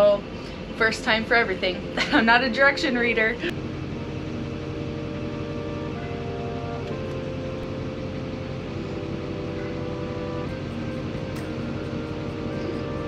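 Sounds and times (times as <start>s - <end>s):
soft music of held chords: 0.0s - 13.0s
steady low rumble: 0.0s - 13.0s.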